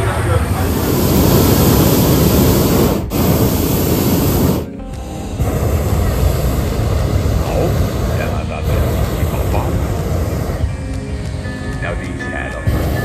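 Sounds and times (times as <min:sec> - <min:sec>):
propane burner rushing: 0:00.0 - 0:13.0.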